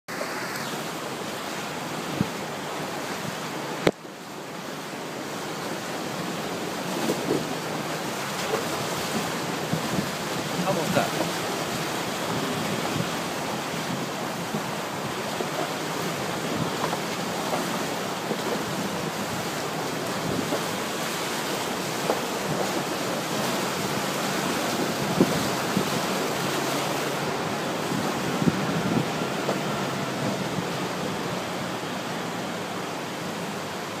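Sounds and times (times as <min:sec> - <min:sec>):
flowing water rushing: 0:00.1 - 0:34.0.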